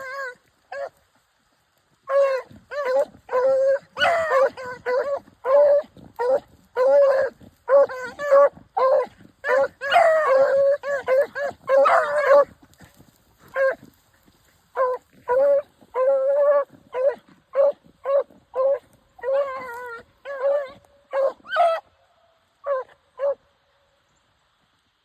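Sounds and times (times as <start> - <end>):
hounds baying and yelping: 0.0 - 1.1, 2.0 - 22.0, 22.6 - 23.4.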